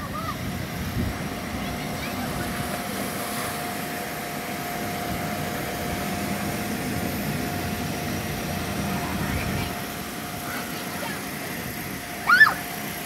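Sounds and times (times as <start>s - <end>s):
electric blower fan droning: 0.0s - 13.0s.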